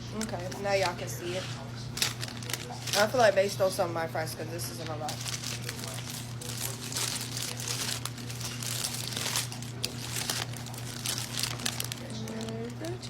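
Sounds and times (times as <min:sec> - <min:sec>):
steady low hum: 0:00.0 - 0:13.0
paper packaging crinkling: 0:00.1 - 0:13.0.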